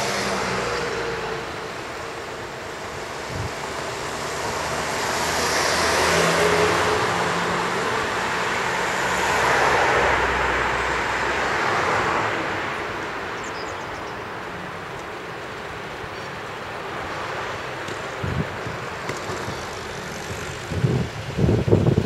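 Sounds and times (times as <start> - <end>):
vehicles passing on road: 0.0 - 22.0.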